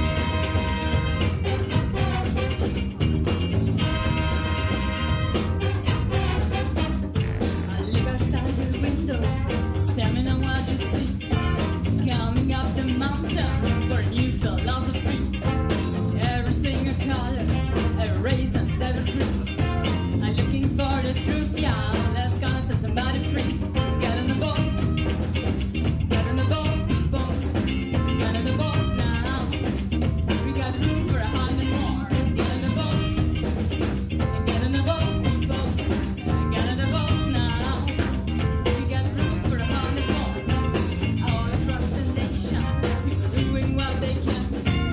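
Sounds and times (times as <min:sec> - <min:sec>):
big band with horns: 0:00.0 - 0:44.9
drum kit beat: 0:00.0 - 0:44.9.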